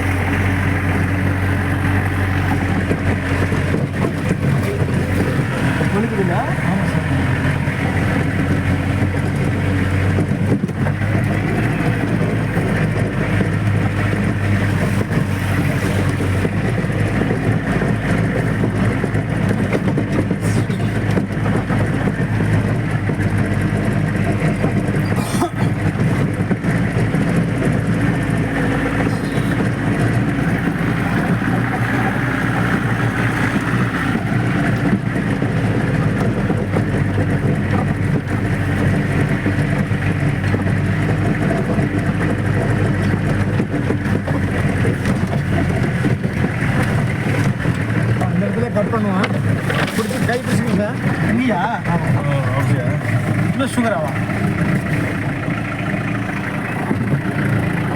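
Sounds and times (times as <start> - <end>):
engine drone inside vehicle: 0.0 - 57.9
knocks from bumps: 1.2 - 55.5.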